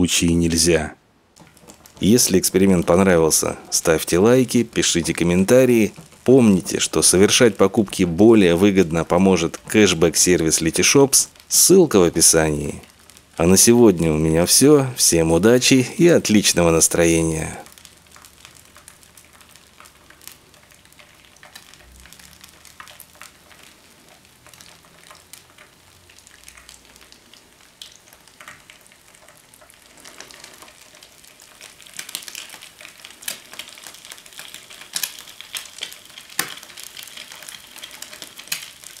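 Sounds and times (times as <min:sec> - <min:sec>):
eggs sizzling in oil: 0:00.6 - 0:39.0
oil popping and crackling: 0:01.3 - 0:39.0.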